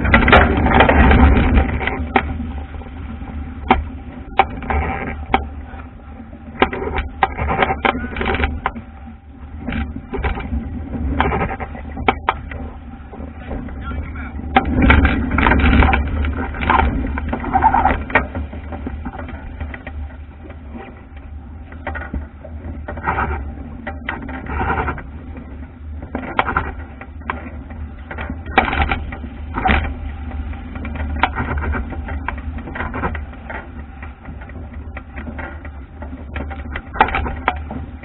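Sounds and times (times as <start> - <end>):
water and wind rushing along hull: 0.0 - 38.0
waves splashing on bow: 0.0 - 38.0.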